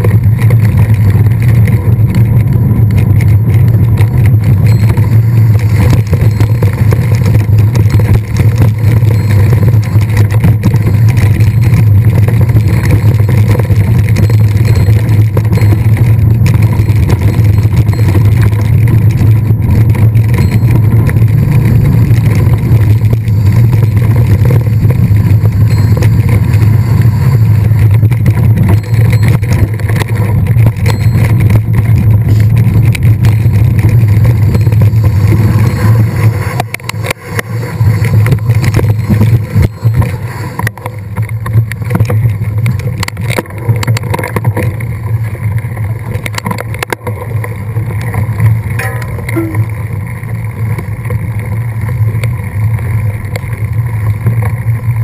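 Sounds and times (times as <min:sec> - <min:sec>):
bike rattling over rough ground: 0:00.0 - 0:55.0
wind on microphone: 0:00.0 - 0:55.0.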